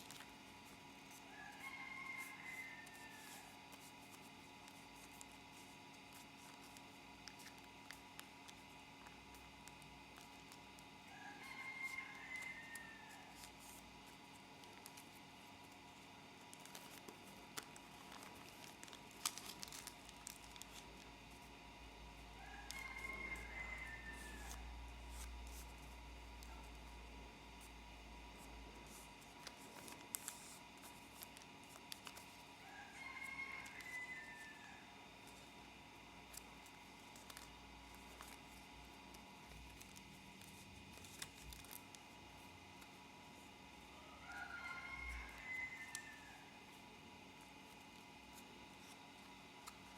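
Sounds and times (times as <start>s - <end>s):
paper crinkling and creasing: 0.0s - 49.9s.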